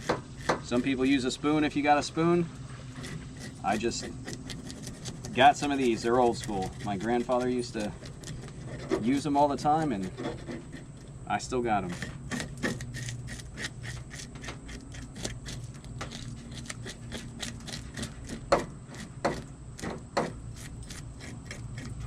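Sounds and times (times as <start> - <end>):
fish scaler scraping scales: 0.0 - 1.6, 2.2 - 11.1, 11.8 - 22.0
steady low hum: 0.0 - 22.0.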